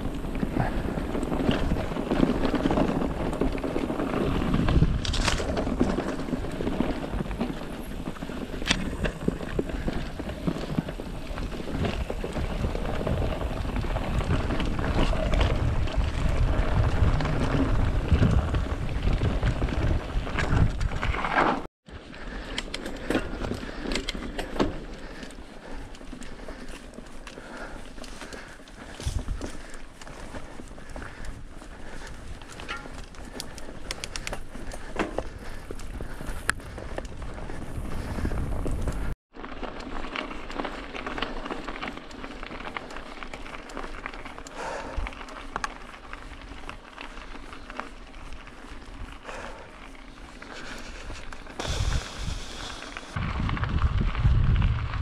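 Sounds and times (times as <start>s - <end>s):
bike rattling over bumps: 0.0s - 55.0s
bike tyres rolling over dirt: 0.0s - 55.0s.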